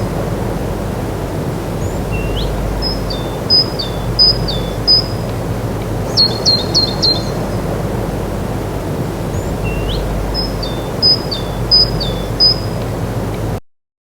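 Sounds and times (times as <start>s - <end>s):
birds chirping: 0.0s - 13.6s
steady low rushing noise: 0.0s - 13.6s.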